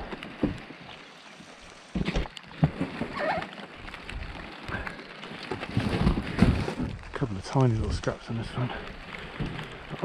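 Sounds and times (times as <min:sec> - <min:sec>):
rain hiss: 0:00.7 - 0:02.0, 0:03.2 - 0:10.0.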